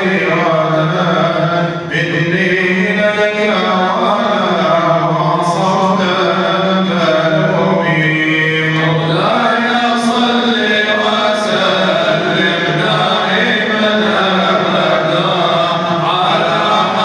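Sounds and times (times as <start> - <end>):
man chanting devotional song: 0.0 - 17.0.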